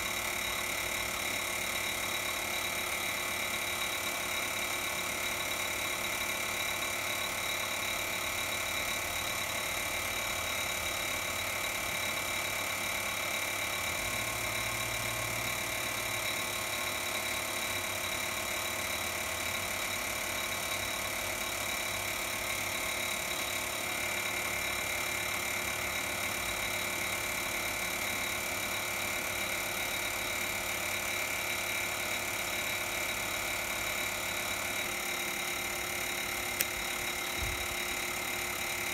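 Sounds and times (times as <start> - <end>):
machine hum with high tones: 0.0 - 38.9.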